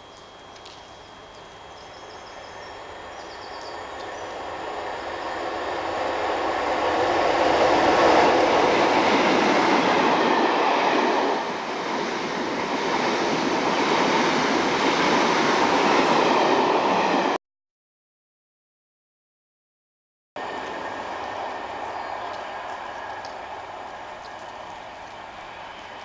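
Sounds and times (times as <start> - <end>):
diesel locomotive passing: 0.0 - 17.4, 20.4 - 26.0
train wheels and coaches rumbling: 0.5 - 17.4, 20.4 - 26.0.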